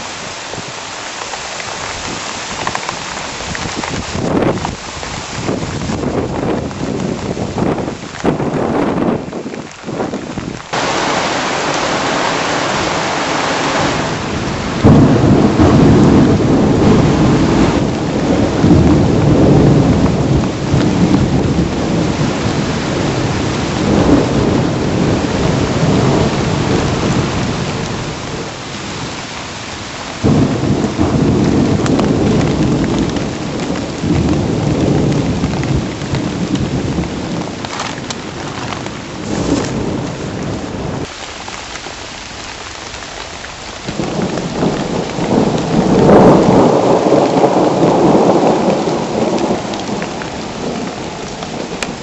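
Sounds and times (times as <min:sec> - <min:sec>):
heavy rain pouring: 0:00.0 - 0:52.0
low thunder rumbling: 0:02.0 - 0:41.1, 0:43.7 - 0:52.0.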